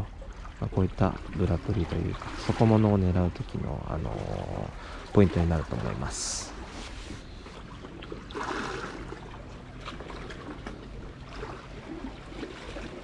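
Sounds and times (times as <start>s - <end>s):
sea water lapping and gurgling: 0.0s - 13.0s.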